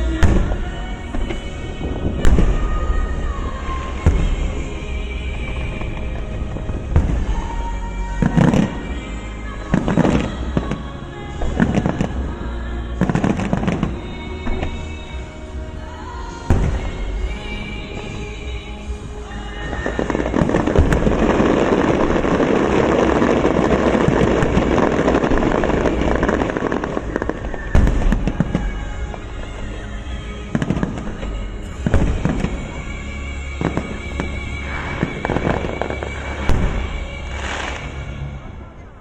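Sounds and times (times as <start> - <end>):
fireworks bangs: 0.0 - 39.0
fireworks crackling: 0.0 - 39.0
music playing: 0.0 - 39.0.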